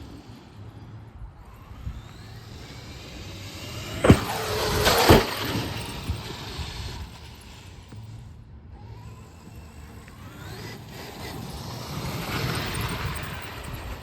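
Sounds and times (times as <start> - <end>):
electric motor whining: 0.0 - 14.0
rush of tyres: 0.0 - 14.0.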